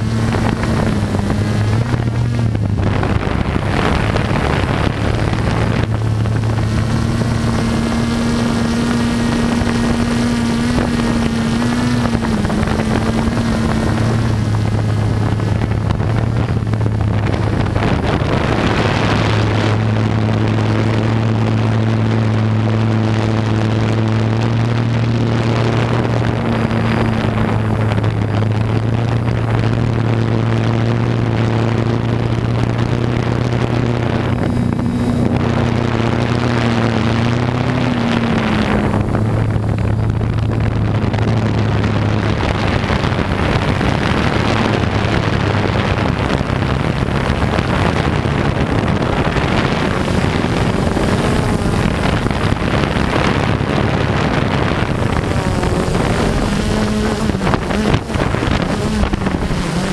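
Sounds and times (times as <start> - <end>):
quadcopter propellers droning: 0.0 - 59.9
wind noise on microphone: 0.0 - 59.9.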